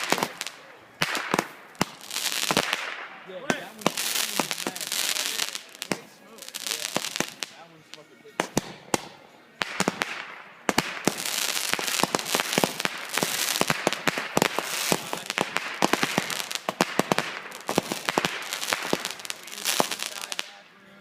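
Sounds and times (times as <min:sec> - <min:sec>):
fireworks bangs and crackles: 0:00.0 - 0:20.7
steady hiss: 0:00.0 - 0:21.0.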